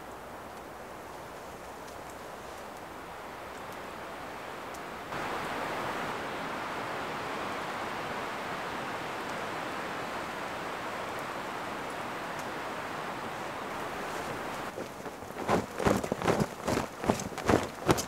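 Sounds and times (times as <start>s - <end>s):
wind rushing through trees: 0.0s - 18.0s.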